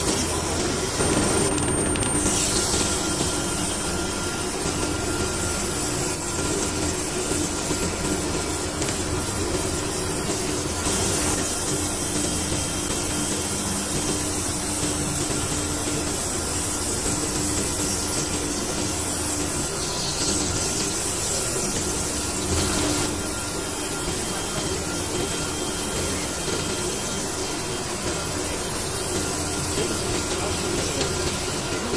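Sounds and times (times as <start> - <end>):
machinery hum: 0.0 - 31.9.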